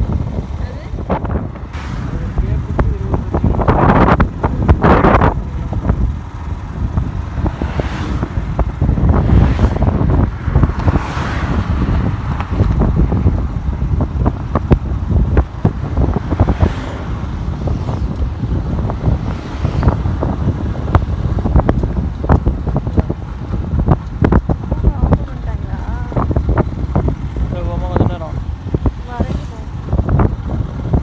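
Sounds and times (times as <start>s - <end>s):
road noise: 0.0s - 31.0s
wind buffeting microphone: 0.0s - 31.0s.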